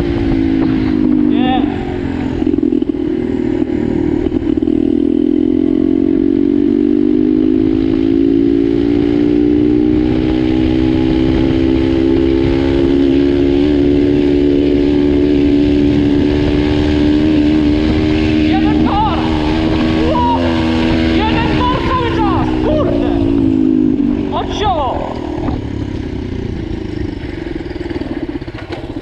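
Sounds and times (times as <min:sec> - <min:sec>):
motorbike engine pulling hard: 0:00.0 - 0:29.0.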